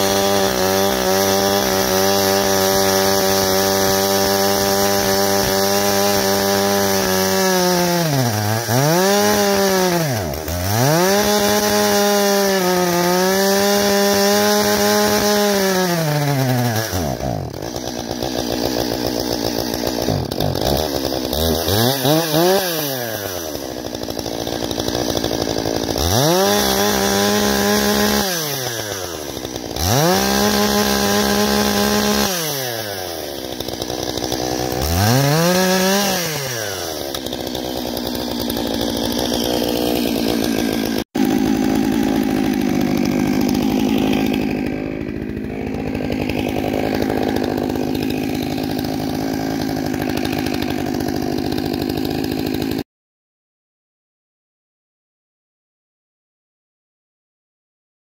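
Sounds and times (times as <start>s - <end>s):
chainsaw cutting a log: 0.0s - 52.9s
chainsaw revving: 0.0s - 52.9s.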